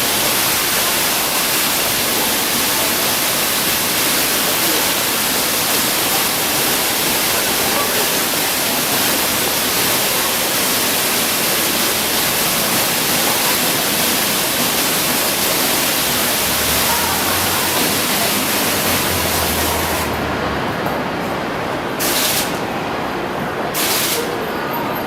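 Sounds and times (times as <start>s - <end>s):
water fountain splashing: 0.0s - 20.7s, 21.4s - 24.7s.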